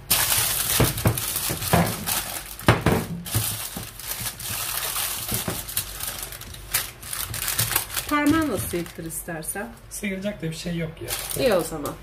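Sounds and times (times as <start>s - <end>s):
packaging crinkling: 0.0s - 9.2s, 11.0s - 12.0s.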